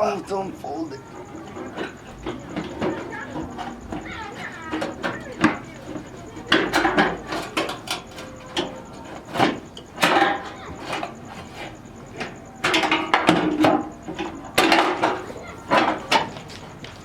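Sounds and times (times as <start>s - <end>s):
car body parts clattering: 0.0s - 17.0s.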